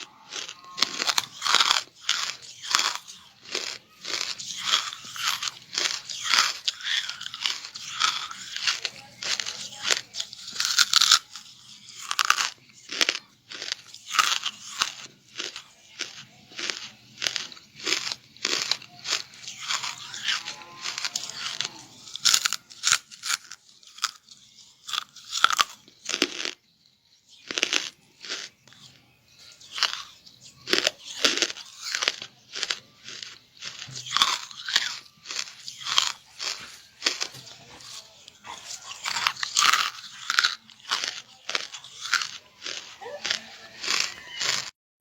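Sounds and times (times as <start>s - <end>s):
crunching charcoal: 0.0s - 44.7s.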